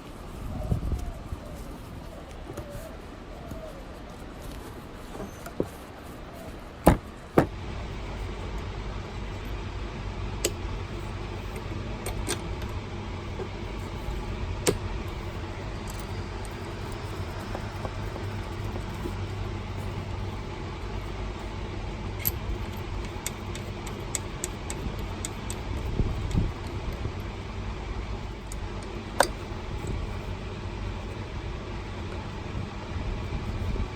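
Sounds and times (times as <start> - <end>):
low vehicle hum: 0.0 - 33.9.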